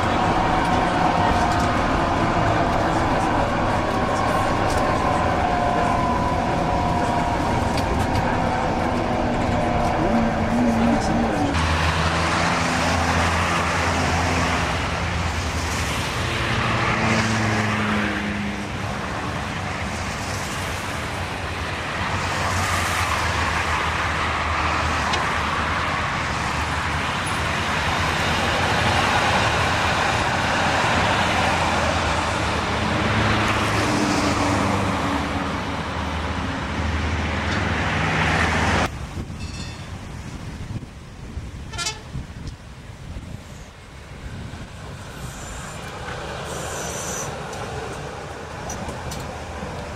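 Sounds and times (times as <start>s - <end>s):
road traffic: 0.0s - 49.9s
tram rumbling along track: 0.0s - 49.9s.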